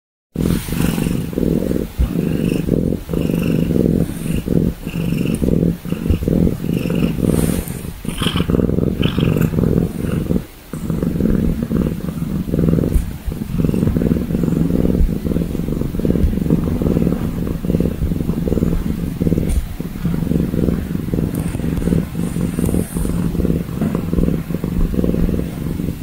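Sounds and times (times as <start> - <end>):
animal purring: 0.4 - 26.0.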